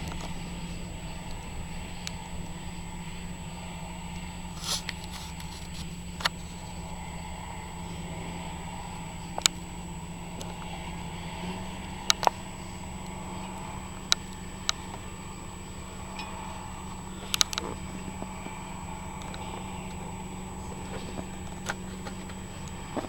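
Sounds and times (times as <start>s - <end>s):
harvest machinery engine drone: 0.0s - 23.0s.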